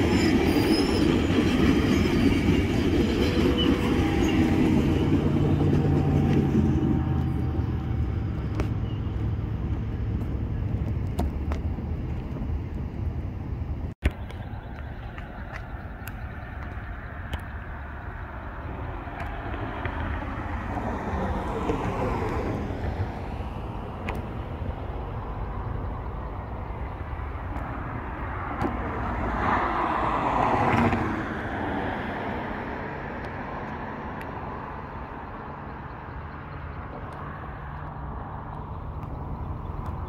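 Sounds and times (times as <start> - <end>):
cars passing: 0.0 - 40.0
low traffic rumble: 0.0 - 40.0.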